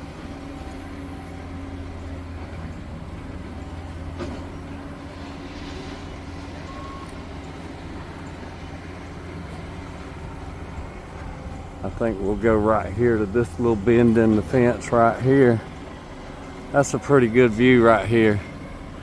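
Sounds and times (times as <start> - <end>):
diesel engines droning: 0.0 - 19.0.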